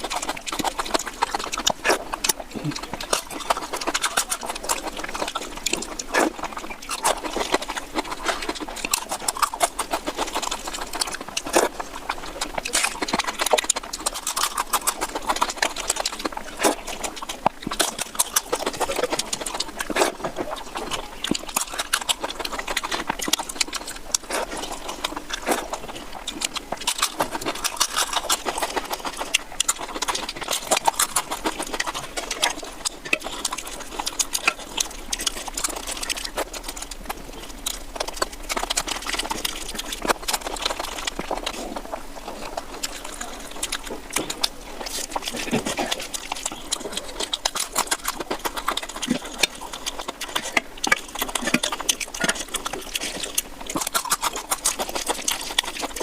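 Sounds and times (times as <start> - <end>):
wet chewing and mouth smacking: 0.0 - 56.0.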